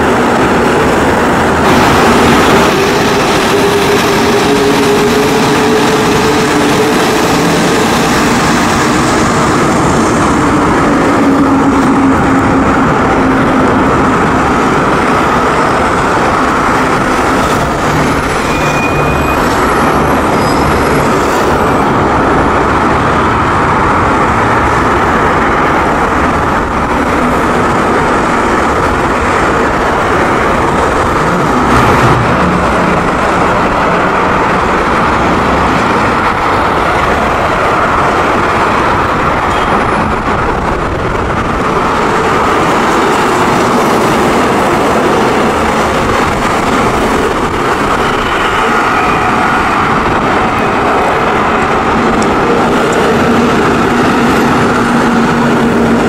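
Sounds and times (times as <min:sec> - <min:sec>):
metro train rumbling: 0:00.0 - 0:56.0.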